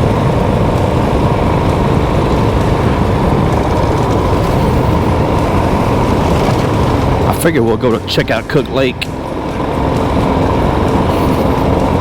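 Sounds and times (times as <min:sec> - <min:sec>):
motorcycle engine: 0:00.0 - 0:12.0
wind noise: 0:00.0 - 0:12.0.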